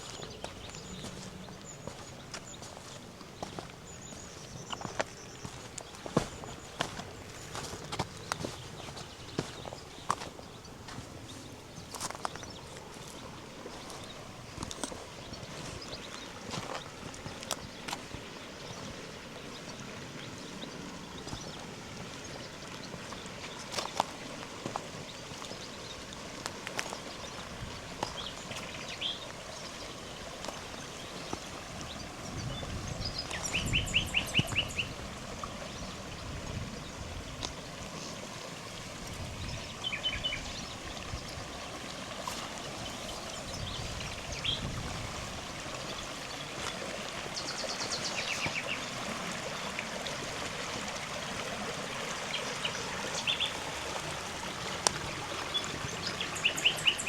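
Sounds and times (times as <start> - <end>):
river water rushing: 0.0 - 57.0
small birds singing: 0.0 - 57.0.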